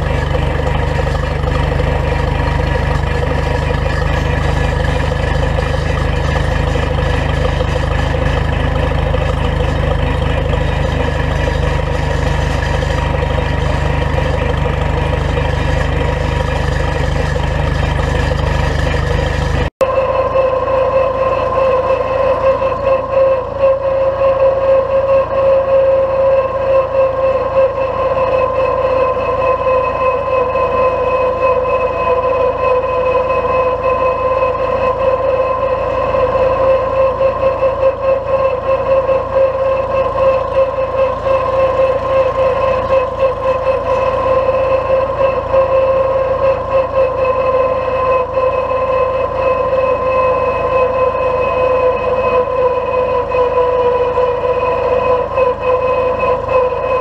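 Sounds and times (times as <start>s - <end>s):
deep tractor engine running: 0.0s - 57.0s
tractor engine with whine: 0.0s - 57.0s.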